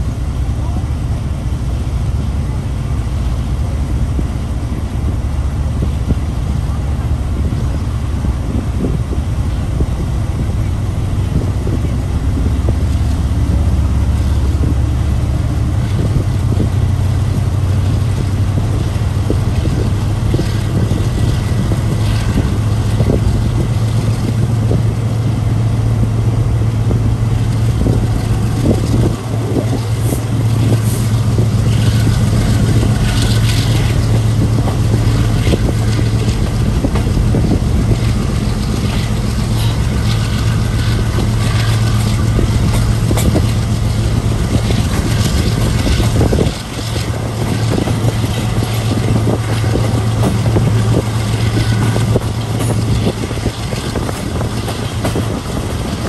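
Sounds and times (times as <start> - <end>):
train wheel rumble and drone: 0.0 - 56.0.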